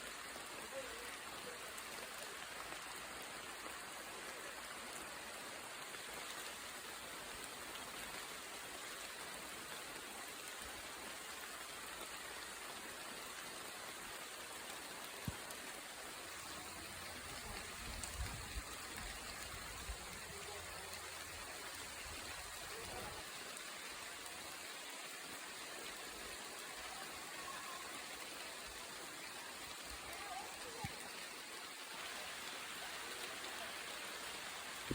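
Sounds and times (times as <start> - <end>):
rain on leaves: 0.0 - 34.9.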